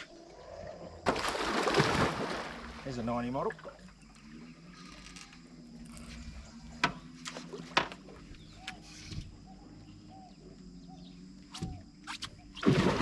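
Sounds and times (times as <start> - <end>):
low steady hum: 0.3 - 13.0.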